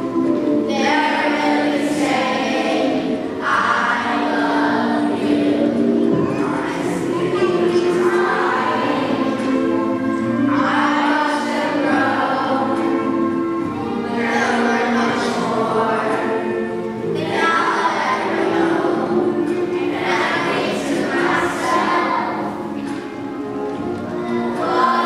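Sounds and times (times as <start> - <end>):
children's choir singing: 0.0 - 25.0.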